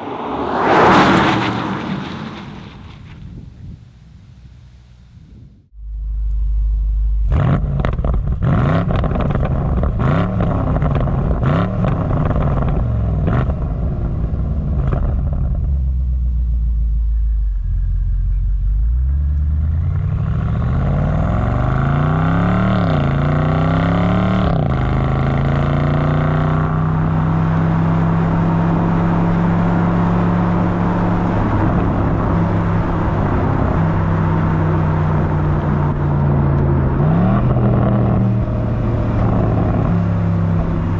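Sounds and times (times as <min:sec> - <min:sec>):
car engine accelerating: 0:00.0 - 0:05.1, 0:05.8 - 0:40.9.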